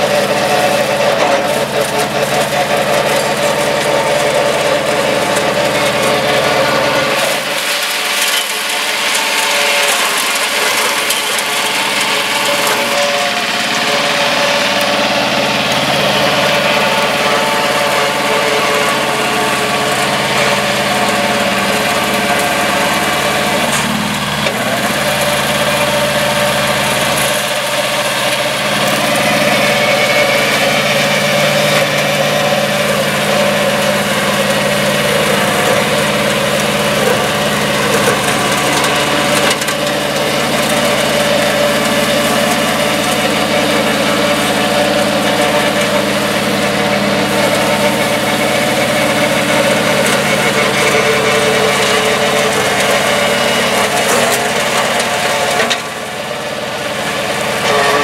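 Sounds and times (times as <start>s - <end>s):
diesel tractor engine running: 0.0s - 58.0s
flail mower chopping grass: 0.0s - 58.0s.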